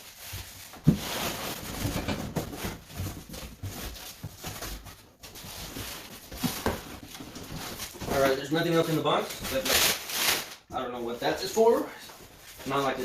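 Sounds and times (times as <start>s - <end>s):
cardboard scraping and rustling: 0.0s - 10.5s.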